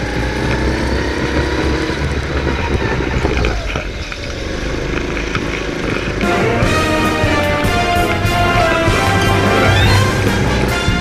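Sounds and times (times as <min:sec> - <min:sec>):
go-kart motor droning: 0:00.0 - 0:11.0.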